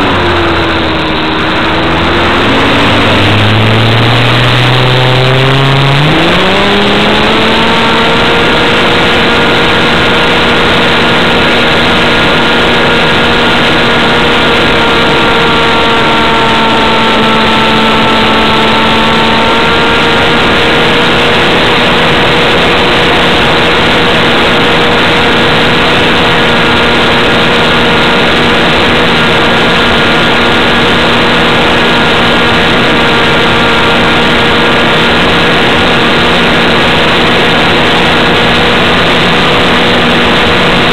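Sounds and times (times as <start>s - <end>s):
model airplane engine whining: 0.0s - 40.9s
rush of noise: 0.0s - 40.9s.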